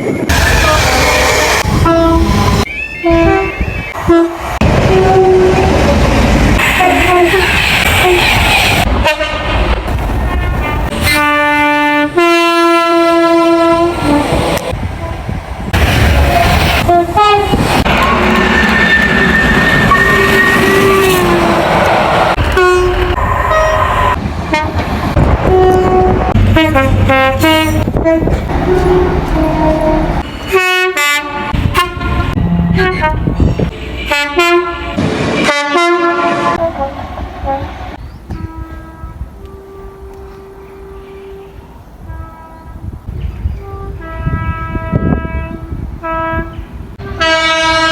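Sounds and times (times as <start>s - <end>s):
passing train rumble: 0.0s - 47.9s
two-tone train horns: 0.3s - 8.2s, 9.0s - 15.4s, 16.0s - 21.7s, 22.3s - 47.9s.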